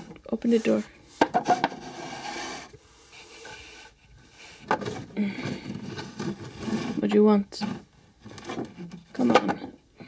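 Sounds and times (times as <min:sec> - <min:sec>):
rubbing and rustling: 0:00.0 - 0:09.3
plastic toys scraping: 0:00.0 - 0:09.5.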